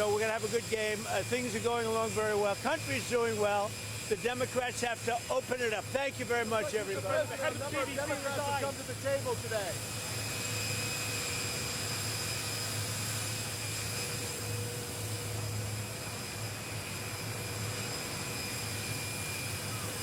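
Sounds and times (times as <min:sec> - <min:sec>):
jet engines running: 0:00.0 - 0:20.0.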